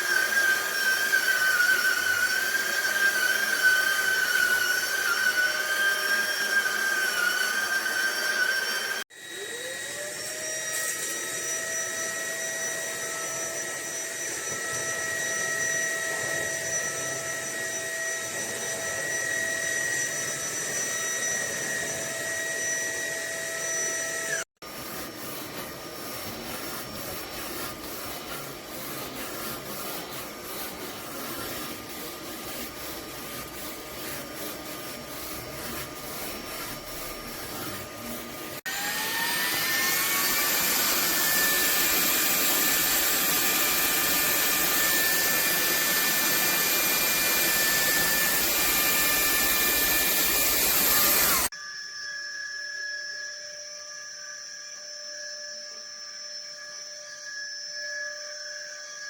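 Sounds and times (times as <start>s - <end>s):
vacuum cleaner motor whine: 0.0s - 51.6s.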